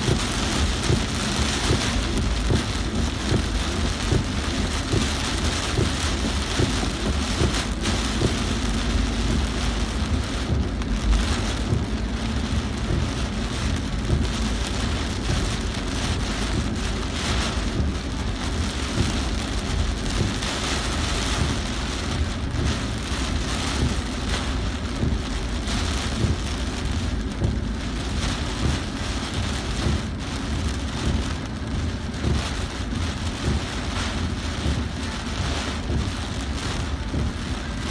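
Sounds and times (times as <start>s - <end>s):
heavy rain on a car: 0.0s - 37.9s.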